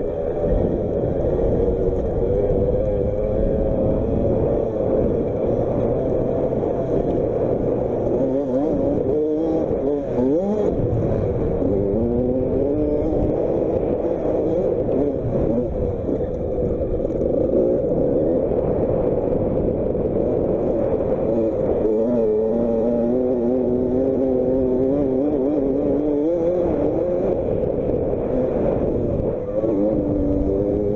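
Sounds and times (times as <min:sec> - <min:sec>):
motocross bike engine revving: 0:00.0 - 0:16.6, 0:20.1 - 0:30.9.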